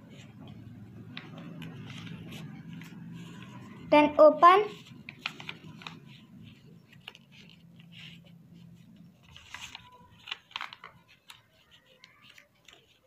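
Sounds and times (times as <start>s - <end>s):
paper rustling and crinkling: 0.1s - 3.9s, 4.7s - 13.0s.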